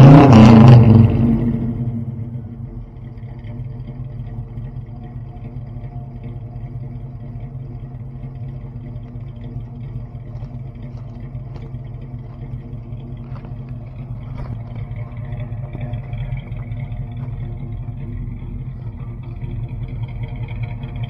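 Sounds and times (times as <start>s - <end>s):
pickup engine idling: 0.0s - 21.0s.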